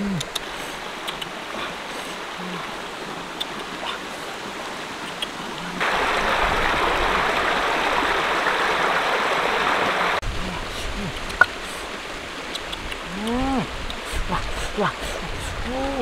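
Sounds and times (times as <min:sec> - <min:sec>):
stream running: 0:00.0 - 0:16.0
water cascading over rocks: 0:00.0 - 0:16.0.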